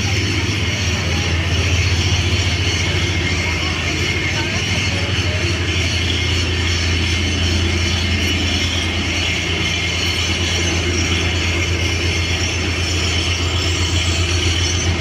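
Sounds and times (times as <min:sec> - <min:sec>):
low pulsing machine hum: 0:00.0 - 0:15.0.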